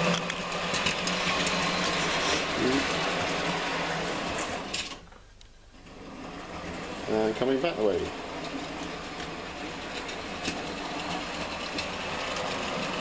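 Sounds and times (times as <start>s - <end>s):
model train motor whir: 0.0s - 5.1s, 5.7s - 13.0s
wheels clicking on rails: 0.0s - 13.0s.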